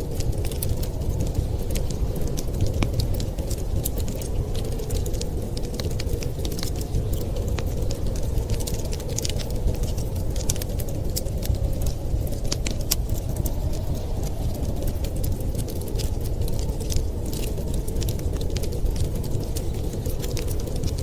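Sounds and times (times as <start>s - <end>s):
snowstorm wind rumble: 0.0s - 21.0s
wood fire crackling: 0.0s - 21.0s.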